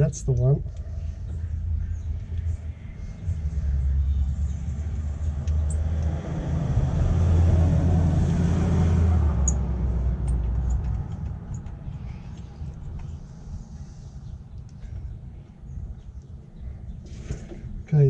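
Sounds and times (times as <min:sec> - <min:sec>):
vehicle rumbling past: 0:00.6 - 0:17.9.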